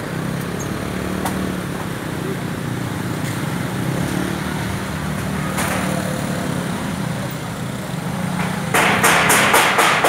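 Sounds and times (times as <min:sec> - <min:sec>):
vehicles passing: 0:00.0 - 0:10.0.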